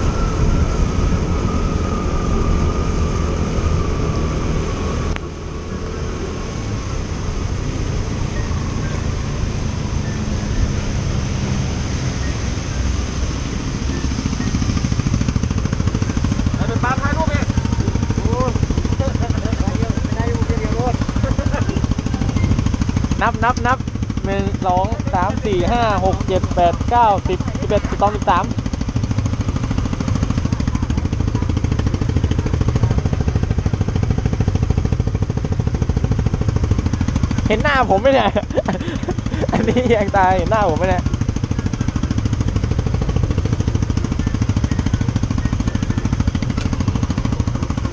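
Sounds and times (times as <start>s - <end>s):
scooter engine running: 0.0s - 47.9s
wind and road noise: 0.0s - 47.9s.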